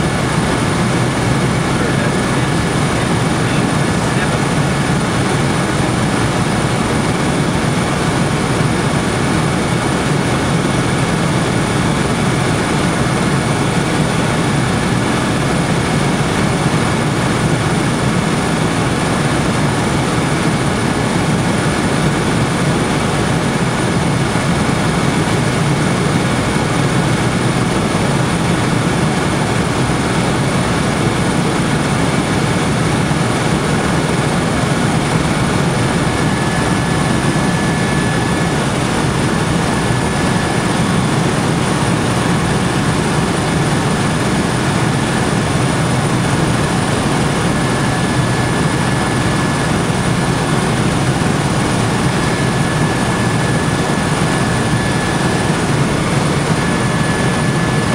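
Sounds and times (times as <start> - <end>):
aircraft engine and airflow drone: 0.0 - 57.9
faint steady whine: 0.0 - 57.9.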